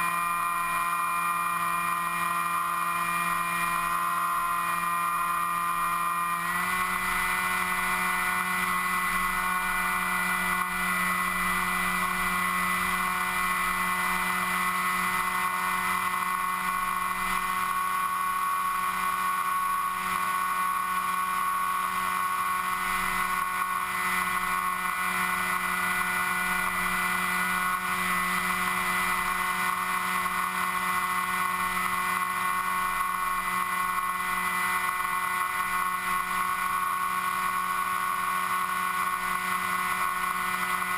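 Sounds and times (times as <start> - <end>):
model aircraft motor whining: 0.0 - 40.9.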